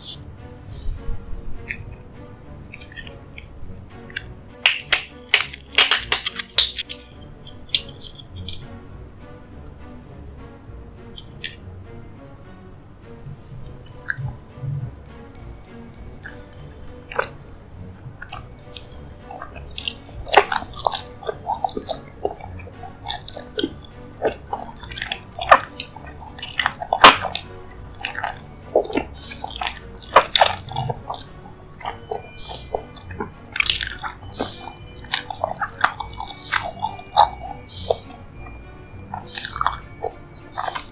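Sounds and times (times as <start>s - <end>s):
faint background music: 0.0s - 40.9s
chewing and wet mouth smacks: 1.6s - 2.0s, 2.6s - 8.8s, 13.6s - 40.9s.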